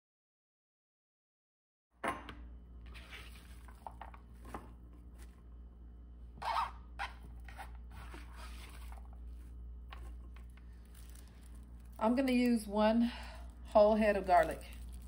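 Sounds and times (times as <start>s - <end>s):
low steady hum: 2.0s - 15.0s.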